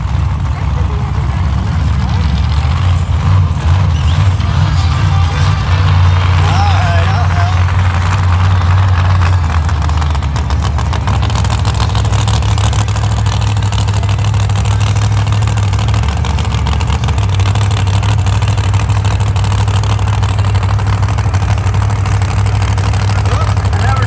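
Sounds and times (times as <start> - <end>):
monster truck engine rumbling: 0.0 - 24.0.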